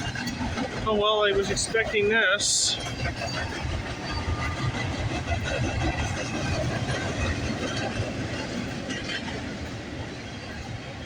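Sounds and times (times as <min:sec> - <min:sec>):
freight train cars rolling past: 0:00.0 - 0:11.0.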